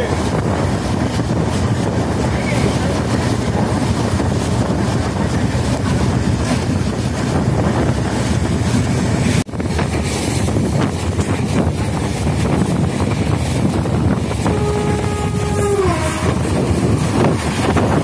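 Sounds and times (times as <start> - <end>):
train coaches rumbling: 0.0 - 18.0
wind rushing over microphone: 0.0 - 18.0.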